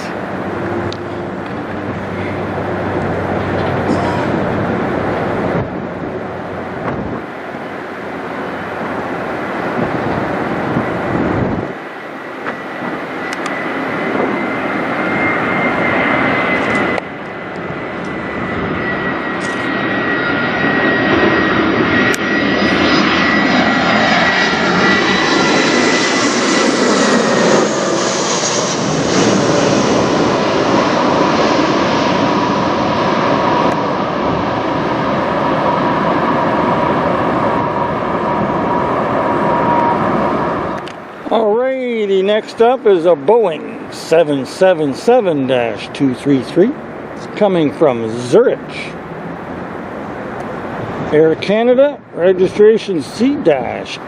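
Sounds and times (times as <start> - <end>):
jet airliner flying overhead: 0.0 - 54.0.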